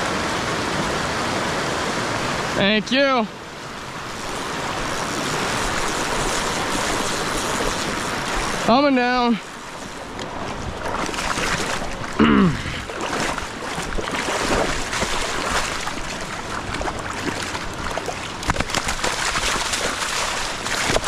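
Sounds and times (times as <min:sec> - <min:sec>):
rushing river water: 0:00.0 - 0:21.0
water splashes: 0:00.0 - 0:21.0.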